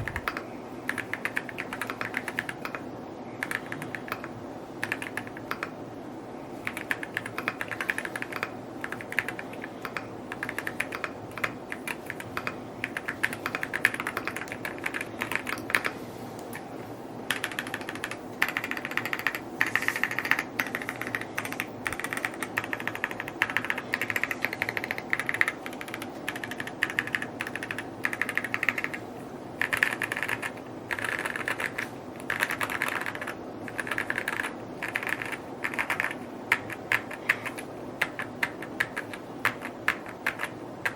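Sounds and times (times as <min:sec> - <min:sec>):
mechanical keyboard typing: 0:00.0 - 0:02.8, 0:03.4 - 0:05.8, 0:06.6 - 0:16.7, 0:17.3 - 0:40.9.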